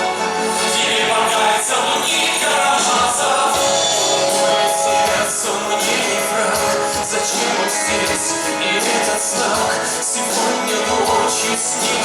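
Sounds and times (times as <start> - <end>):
band and orchestral backing: 0.0 - 12.0
choir singing sustained chords: 0.0 - 12.0.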